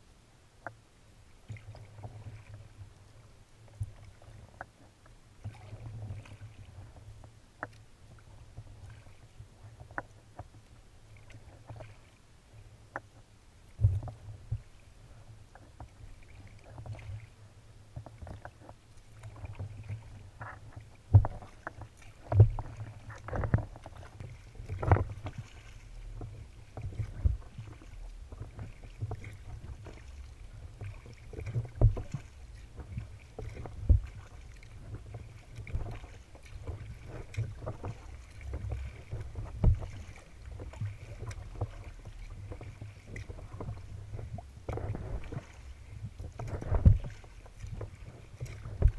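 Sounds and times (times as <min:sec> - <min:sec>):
water splashing against kayak hull: 0:00.6 - 0:48.9.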